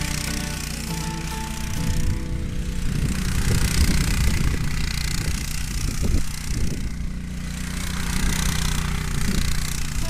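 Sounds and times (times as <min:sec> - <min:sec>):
kart engine running: 0:00.0 - 0:10.0.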